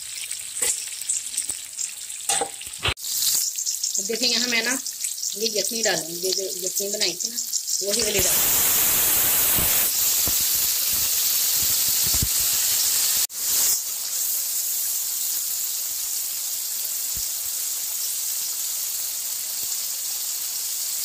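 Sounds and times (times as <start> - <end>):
stock sizzling in hot oil: 0.0 - 21.0.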